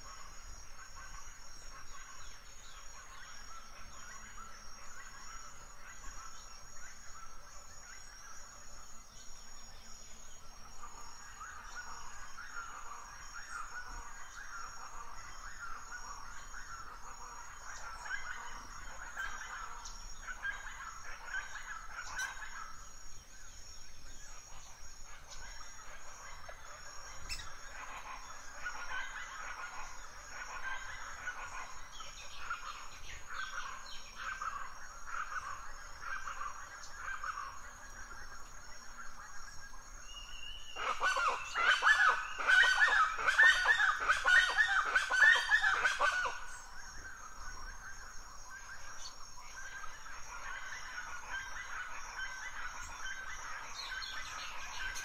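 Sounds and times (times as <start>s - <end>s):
forest birds calling: 0.0s - 55.0s.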